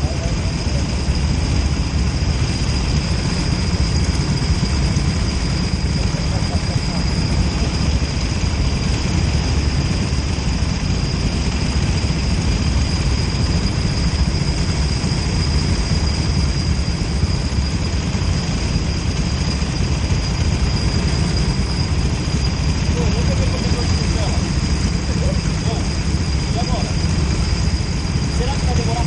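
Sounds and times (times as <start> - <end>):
go-kart engine idling: 0.0 - 29.0
thin high whine: 0.0 - 29.0.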